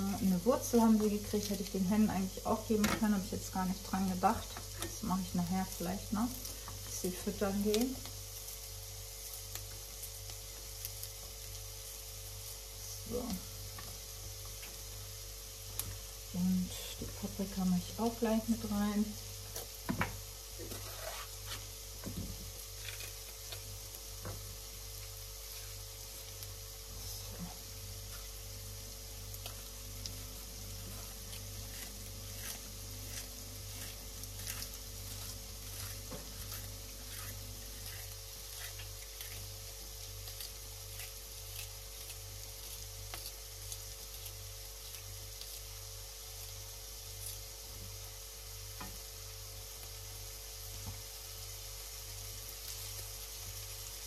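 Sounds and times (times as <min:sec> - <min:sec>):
low even hum: 0:00.0 - 0:54.0
onions sizzling in a frying pan: 0:00.0 - 0:54.0.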